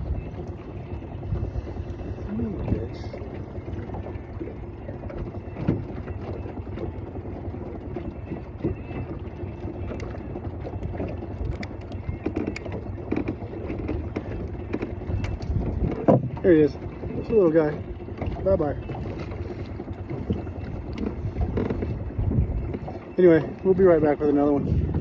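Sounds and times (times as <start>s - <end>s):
wind buffeting microphone: 0.0s - 8.5s, 9.9s - 25.0s.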